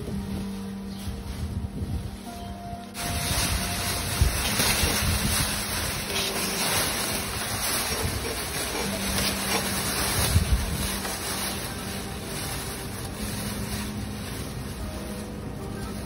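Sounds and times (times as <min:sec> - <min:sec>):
wind buffeting microphone: 0:00.0 - 0:02.4, 0:03.0 - 0:16.0
plastic bag flapping: 0:02.9 - 0:16.0.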